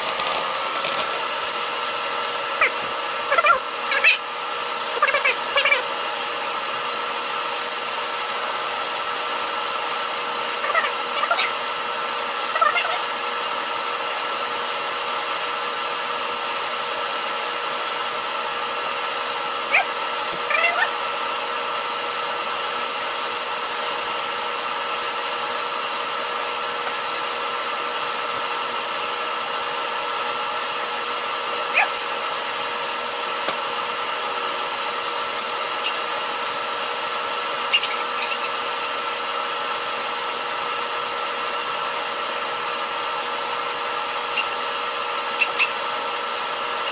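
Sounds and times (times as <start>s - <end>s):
steady machine hum: 0.0s - 46.9s.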